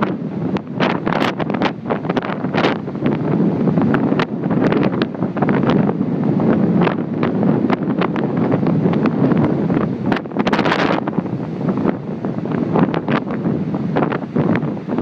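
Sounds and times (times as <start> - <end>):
heavy surf breaking: 0.0 - 15.0
wind buffeting microphone: 0.0 - 15.0.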